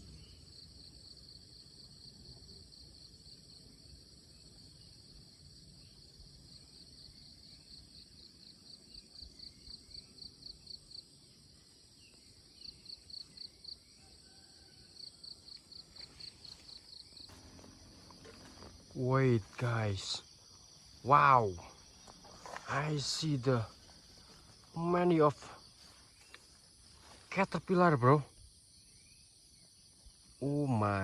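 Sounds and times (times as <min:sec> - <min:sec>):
high-pitched insect chorus: 0:00.0 - 0:31.0
insect chirping in pulses: 0:00.0 - 0:31.0.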